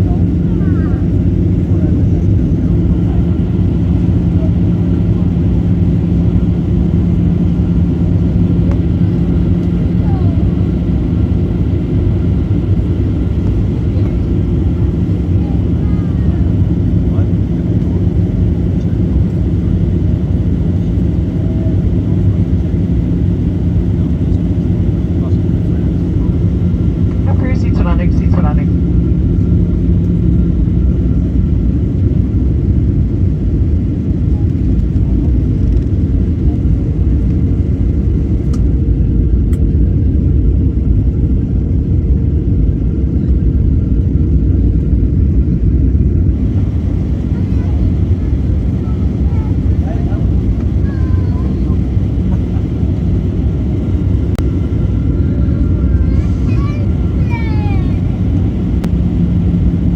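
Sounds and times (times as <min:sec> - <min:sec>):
airliner engines humming: 0:00.0 - 0:59.9.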